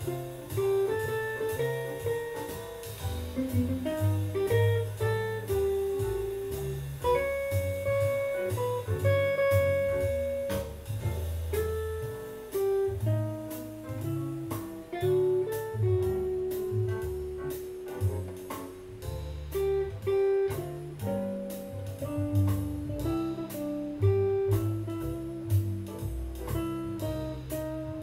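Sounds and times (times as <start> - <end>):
bass line: 0.0 - 28.0
electric guitar jazz melody: 0.0 - 28.0.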